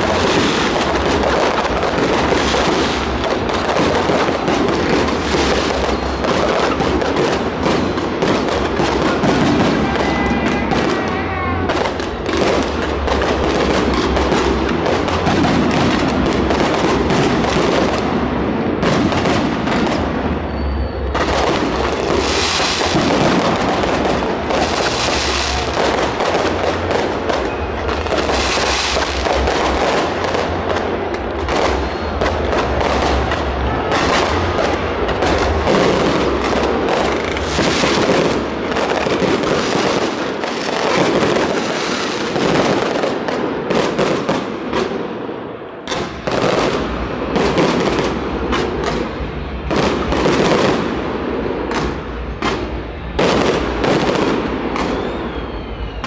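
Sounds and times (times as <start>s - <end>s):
fireworks crackling: 0.0s - 56.0s
fireworks deep booms: 0.0s - 56.0s.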